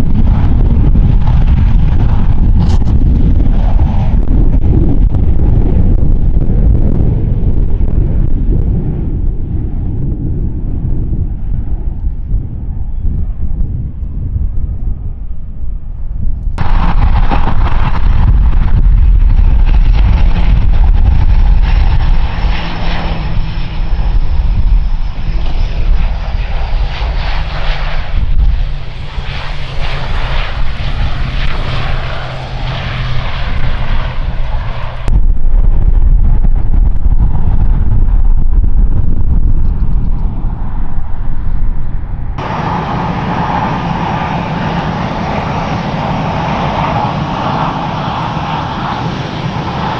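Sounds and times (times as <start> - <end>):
quieter aircraft engine: 0.0 - 49.9
turboprop engines running loudly: 0.0 - 49.9.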